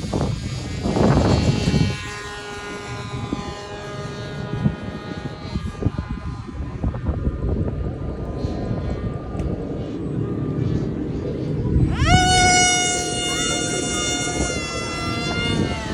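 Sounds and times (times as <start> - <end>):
model airplane engine buzzing: 0.0 - 15.9.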